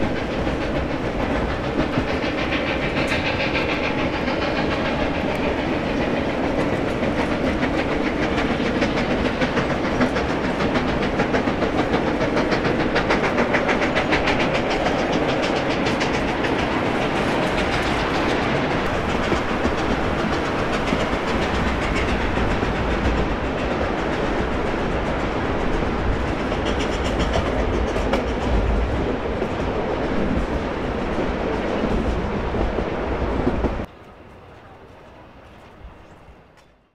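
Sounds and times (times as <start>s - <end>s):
train wheels clicking over rail joints: 0.0s - 36.9s.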